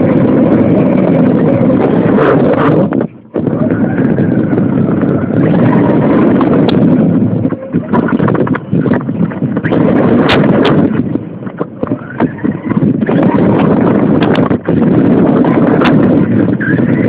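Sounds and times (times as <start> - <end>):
wheels rumbling over ground: 0.0 - 17.0
wind on microphone: 0.0 - 17.0.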